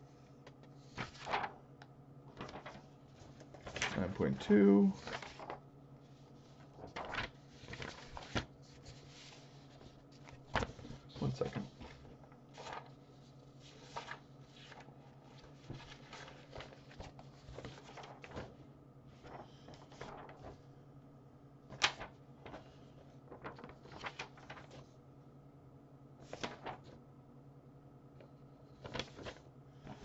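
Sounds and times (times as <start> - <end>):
faint steady hum: 0.0 - 30.0
paper rustling on a desk: 0.4 - 1.7, 2.3 - 20.7, 21.6 - 25.0, 26.2 - 27.0, 28.7 - 30.0.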